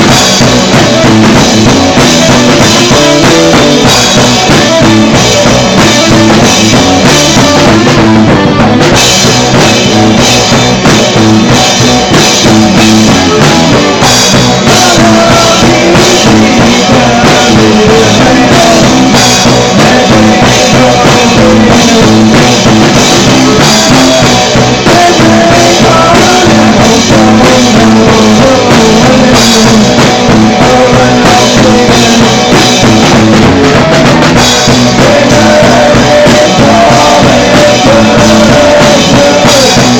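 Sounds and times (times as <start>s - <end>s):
bass drum thumps: 0.0s - 39.9s
punk rock band playing: 0.0s - 39.9s.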